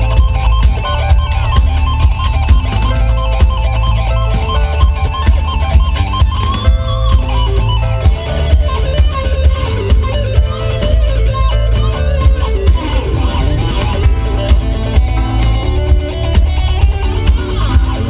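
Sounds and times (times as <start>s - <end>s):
electric guitar lead with bent notes: 0.0s - 18.0s
live funk band playing: 0.0s - 18.0s.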